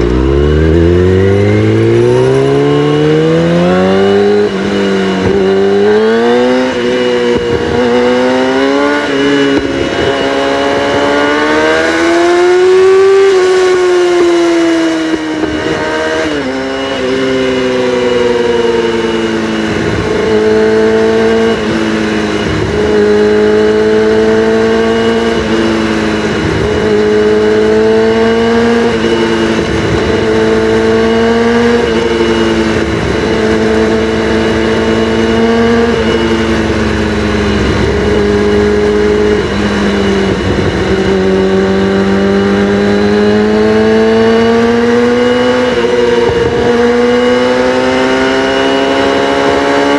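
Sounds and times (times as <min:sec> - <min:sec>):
sport bike engine revving: 0:00.0 - 0:49.9.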